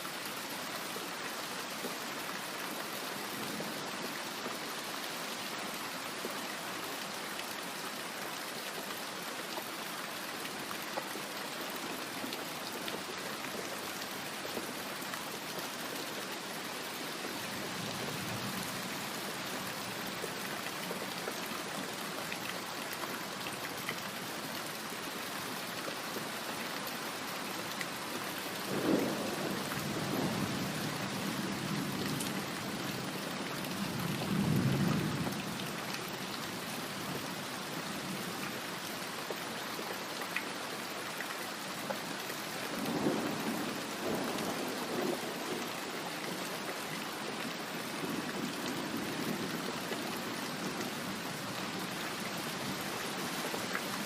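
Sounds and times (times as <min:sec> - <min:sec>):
steady heavy rain: 0:00.0 - 0:54.0.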